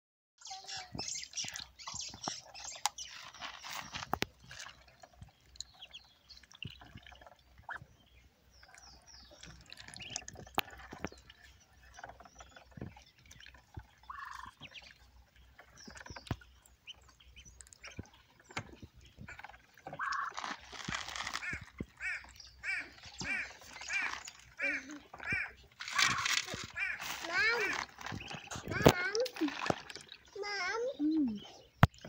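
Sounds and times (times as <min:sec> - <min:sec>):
ducklings peeping: 0:00.4 - 0:30.2
small water splashes: 0:00.9 - 0:31.1
bills clicking in water: 0:01.1 - 0:31.0.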